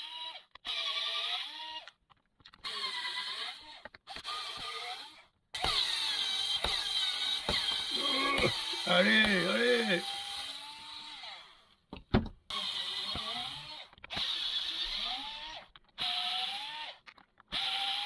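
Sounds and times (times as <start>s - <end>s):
hammer drill motor running: 0.0s - 1.9s, 2.6s - 11.8s, 12.5s - 18.0s.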